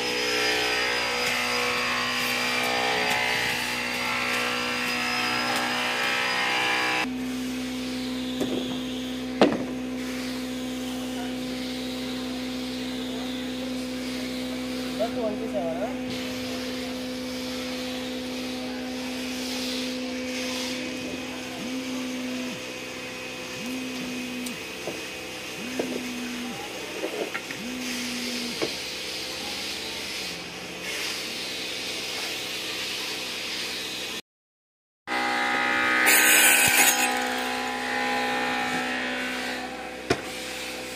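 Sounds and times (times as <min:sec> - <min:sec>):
steady motor hum: 0:00.0 - 0:34.2, 0:35.1 - 0:40.9.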